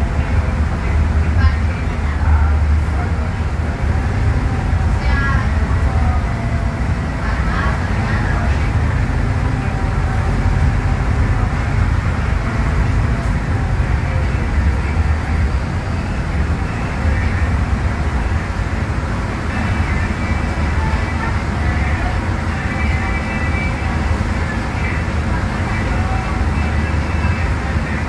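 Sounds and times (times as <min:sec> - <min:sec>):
diesel bus engine running: 0:00.0 - 0:28.0
road and body noise: 0:00.0 - 0:28.0.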